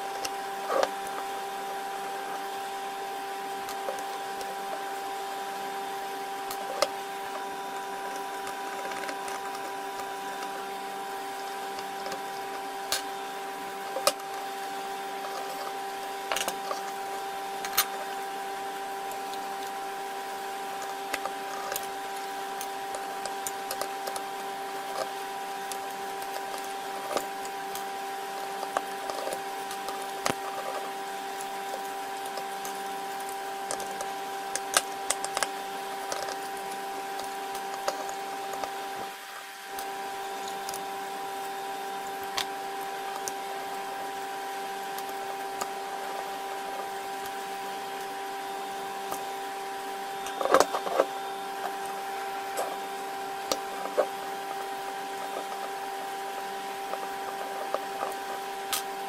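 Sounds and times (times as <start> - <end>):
small motor humming: 0.0 - 59.0.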